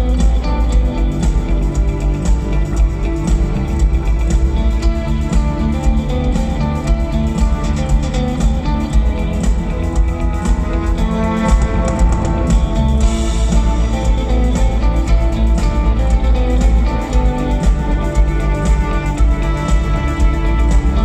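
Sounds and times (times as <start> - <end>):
rock music with orchestra: 0.0 - 21.0.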